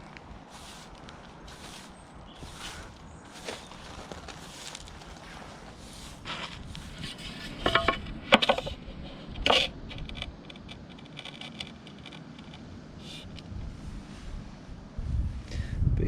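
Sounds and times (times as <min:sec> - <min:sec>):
metal scraping on concrete: 0:00.5 - 0:13.5.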